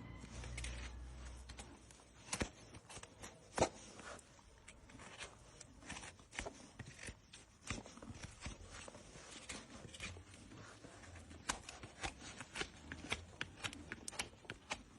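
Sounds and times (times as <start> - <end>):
trimming tools clicking and scraping: 0.3 - 14.9.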